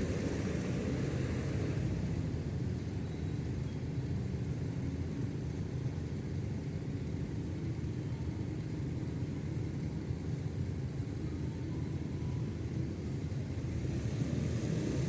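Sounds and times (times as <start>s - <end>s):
road traffic rumble: 0.0s - 7.6s, 8.3s - 15.0s.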